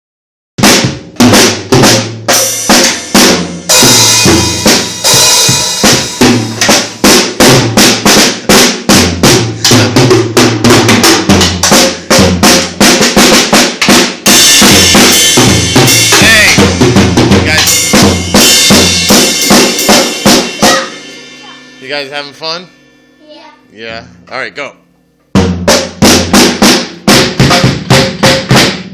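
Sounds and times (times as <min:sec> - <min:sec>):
drum kit beat: 0:00.6 - 0:28.9.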